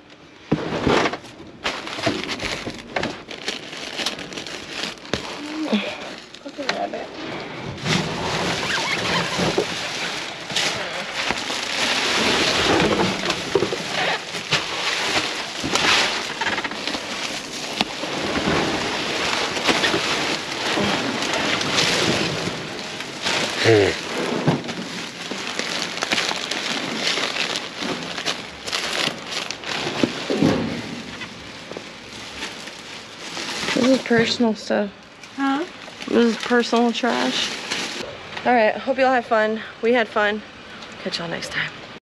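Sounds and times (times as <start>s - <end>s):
items clicking and knocking: 0.0s - 7.0s, 7.8s - 34.5s
plastic bags rustling: 0.0s - 41.4s.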